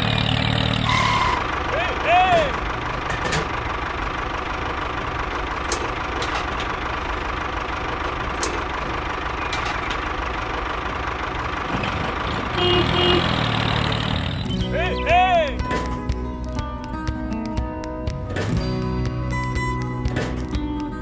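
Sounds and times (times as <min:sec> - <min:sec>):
engine idling: 0:00.0 - 0:17.4.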